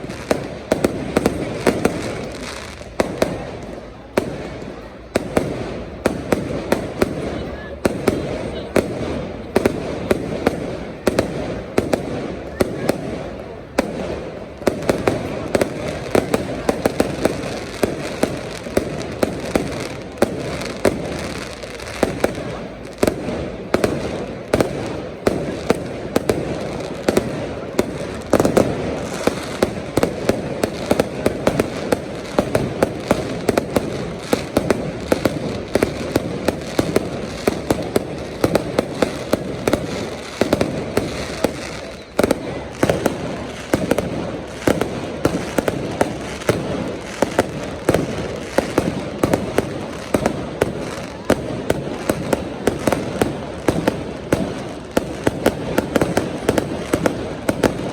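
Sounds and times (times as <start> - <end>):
fireworks bangs: 0.0 - 57.9.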